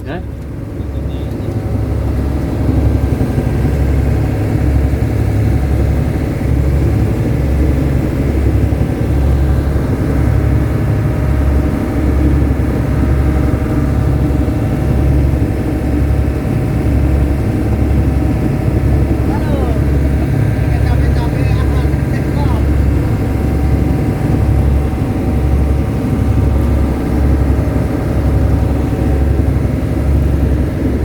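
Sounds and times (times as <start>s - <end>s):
boat engine idling: 0.0s - 31.0s.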